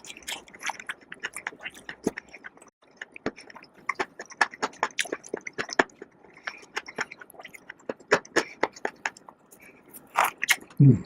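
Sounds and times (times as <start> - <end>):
chewing crisp fried food: 0.0 - 10.8.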